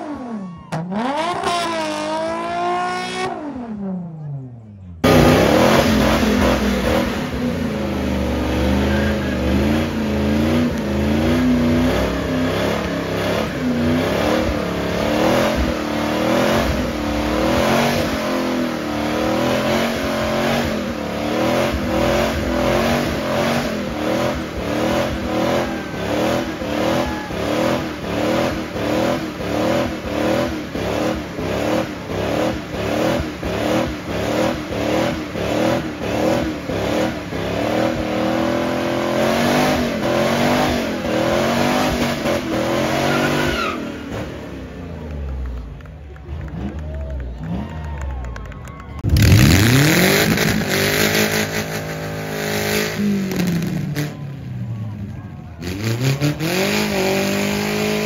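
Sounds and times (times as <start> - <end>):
car engine revving: 0.0 - 48.3, 49.0 - 58.0.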